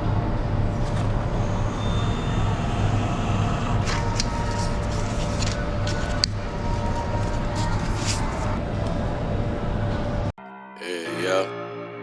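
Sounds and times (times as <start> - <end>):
truck engine drone: 0.2 - 10.3.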